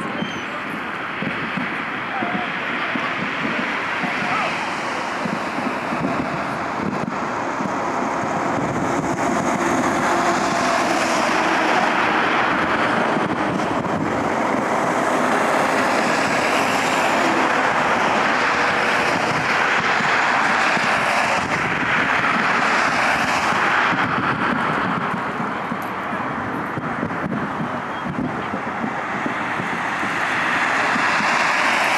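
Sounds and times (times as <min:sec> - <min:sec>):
jet engine rushing: 0:00.0 - 0:31.9.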